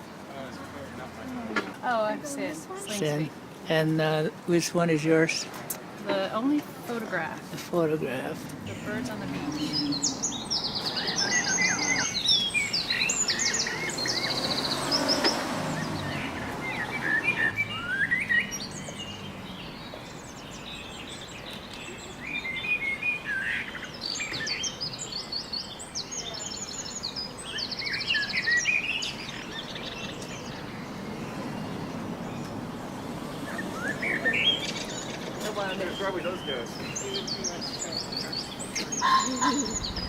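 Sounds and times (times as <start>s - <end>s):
birds chirping and trilling: 7.6s - 40.0s.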